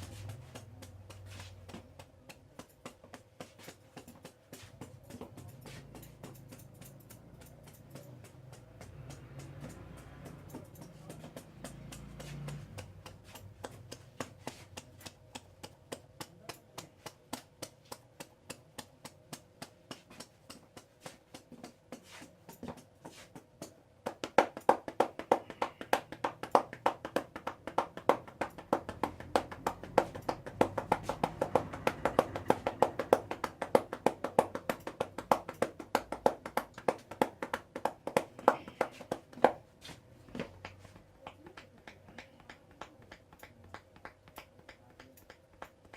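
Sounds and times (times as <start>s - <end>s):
hands tapping and slapping: 0.0s - 45.9s.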